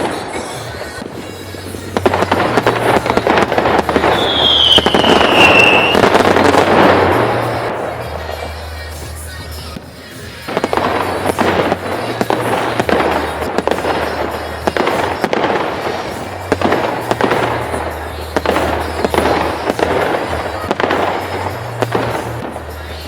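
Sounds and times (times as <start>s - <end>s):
fireworks bangs and crackling: 0.0s - 23.0s
music with bass: 0.0s - 23.0s.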